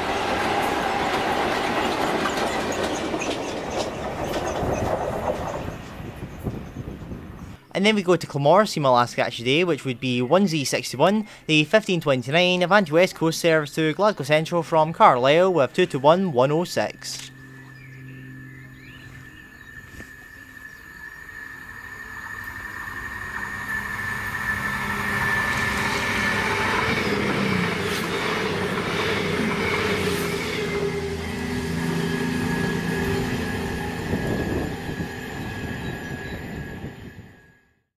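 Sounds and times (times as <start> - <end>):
diesel train passing: 0.0 - 7.8, 10.6 - 37.8.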